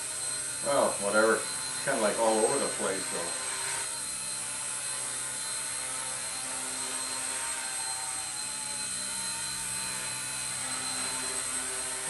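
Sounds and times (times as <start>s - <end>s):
rc helicopter motor whine: 0.0s - 12.0s.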